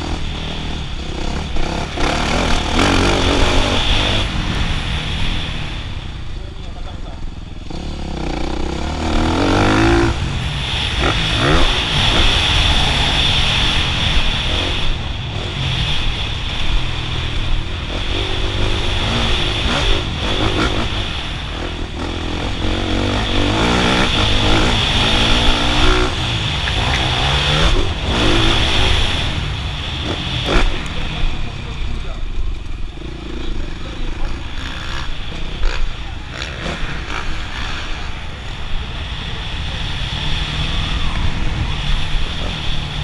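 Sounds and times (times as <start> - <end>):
motocross bike engine revving: 0.0 - 5.9, 7.5 - 43.0.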